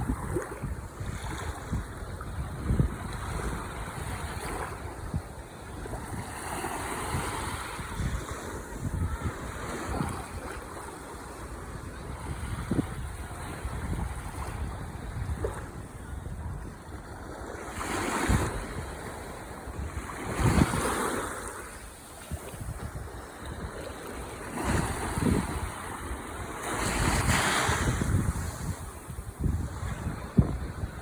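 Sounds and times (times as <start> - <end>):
ocean waves breaking on shore: 0.0 - 31.0
wind rumble on microphone: 0.0 - 31.0.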